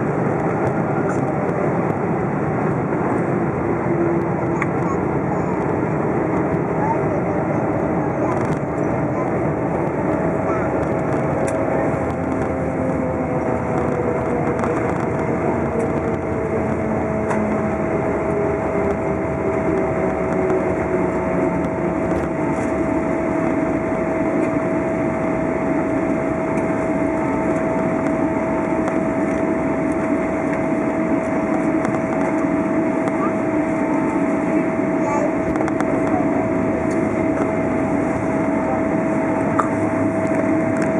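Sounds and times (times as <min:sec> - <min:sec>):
airplane cabin noise: 0:00.0 - 0:40.9
jet engine hum: 0:00.0 - 0:40.9
steady whine: 0:00.0 - 0:40.9.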